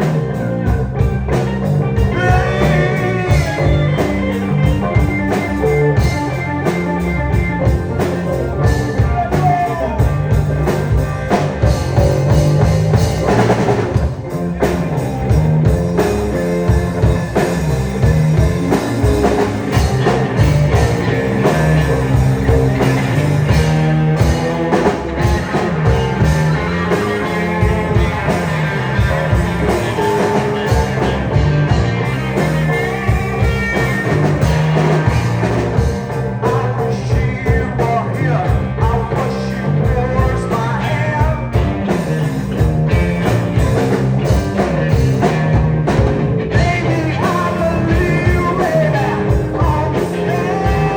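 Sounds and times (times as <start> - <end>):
drum kit beat: 0.0 - 50.9
rock band playing live: 0.0 - 50.9.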